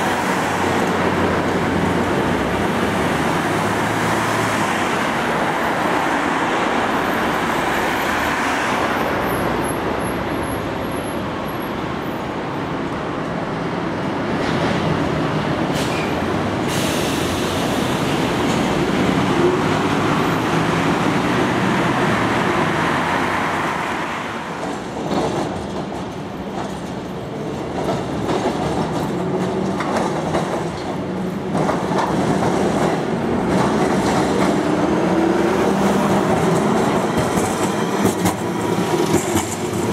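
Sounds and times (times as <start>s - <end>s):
tram wheels rolling on rails: 0.0s - 39.9s.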